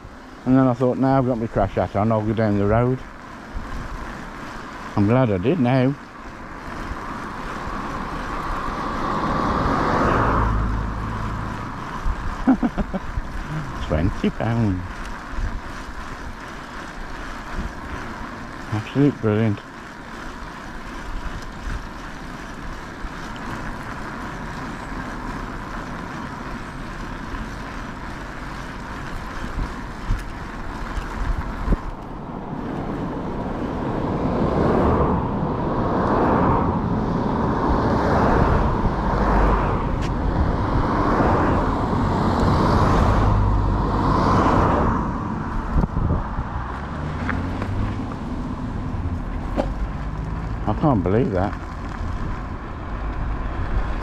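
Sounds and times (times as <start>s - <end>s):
road noise: 0.0s - 54.0s
wind noise on microphone: 1.4s - 6.0s, 6.6s - 25.5s, 26.2s - 54.0s.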